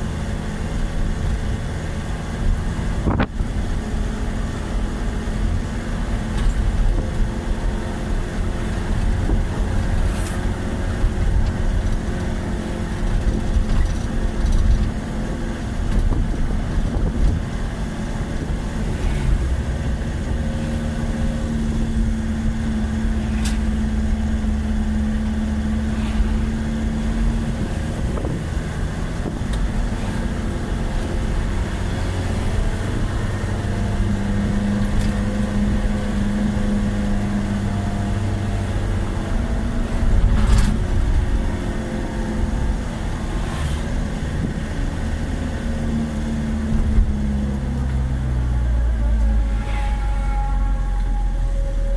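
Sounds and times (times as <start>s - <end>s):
vehicle engine rumbling: 0.0s - 51.9s.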